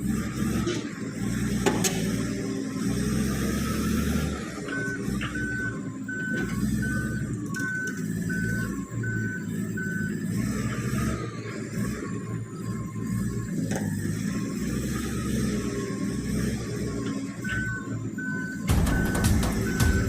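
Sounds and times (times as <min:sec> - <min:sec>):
bulldozer diesel engine rumbling: 0:00.0 - 0:20.0
reversing alarm beeps: 0:03.2 - 0:20.0.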